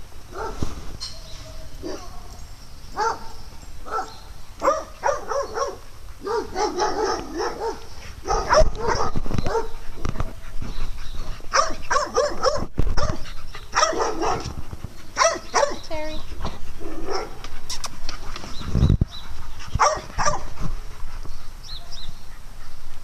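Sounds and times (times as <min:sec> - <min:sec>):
dogs barking and yipping: 0:00.3 - 0:23.0.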